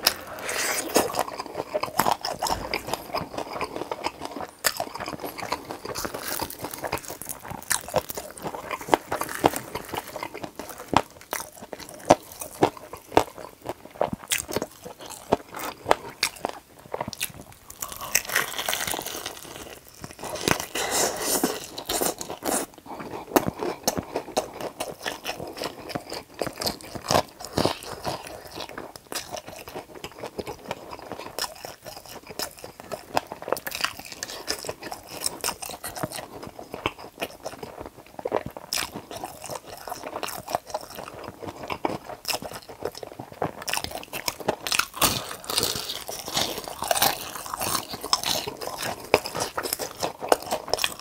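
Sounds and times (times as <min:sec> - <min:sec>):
crunchy chewing of fried chicken: 0:00.0 - 0:51.0.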